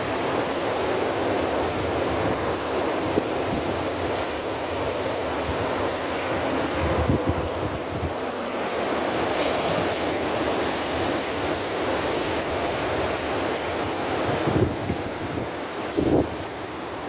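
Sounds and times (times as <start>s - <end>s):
ocean surf rushing: 0.0s - 17.0s
wind noise on microphone: 1.1s - 8.3s, 9.1s - 17.0s.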